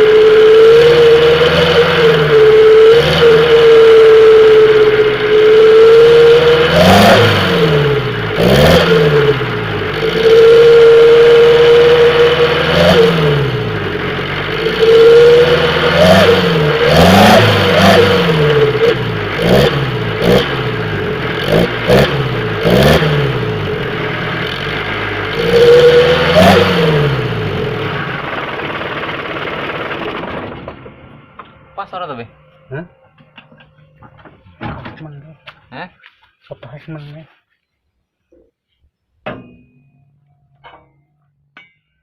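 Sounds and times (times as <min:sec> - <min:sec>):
car engine revving: 0:00.0 - 0:35.5.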